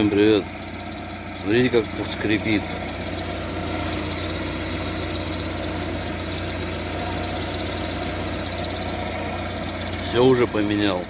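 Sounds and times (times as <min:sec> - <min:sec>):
car engine idling: 0:00.0 - 0:11.0
drive belt squeaking: 0:00.0 - 0:11.0.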